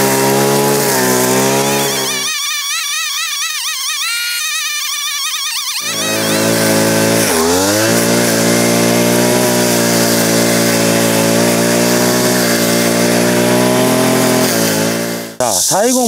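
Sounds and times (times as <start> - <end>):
brush cutter engine running: 0.0 - 15.5.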